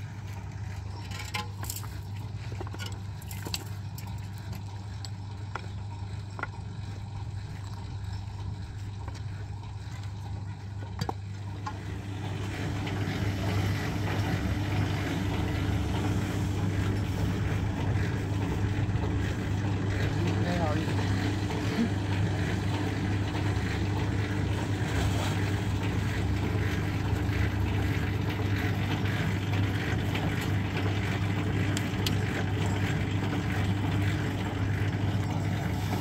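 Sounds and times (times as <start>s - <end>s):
concrete mixer running: 0.0s - 36.0s.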